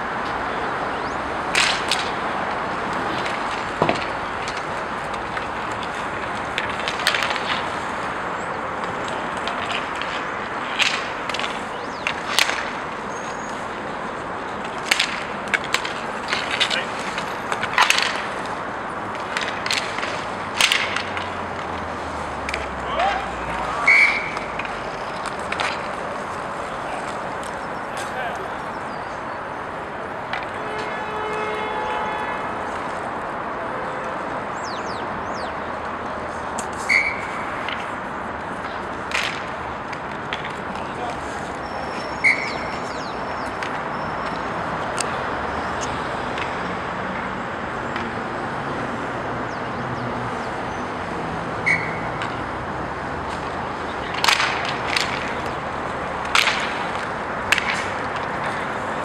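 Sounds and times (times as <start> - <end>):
skate wheels rolling: 0.0 - 59.0
hockey sticks clacking on puck: 1.4 - 28.7, 30.2 - 33.1, 35.8 - 48.8, 51.6 - 59.0.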